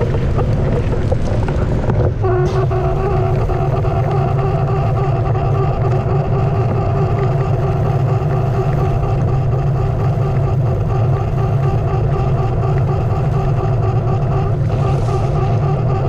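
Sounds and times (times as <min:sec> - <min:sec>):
tyre and wind rumble: 0:00.0 - 0:16.0
electric motor whining: 0:02.2 - 0:16.0.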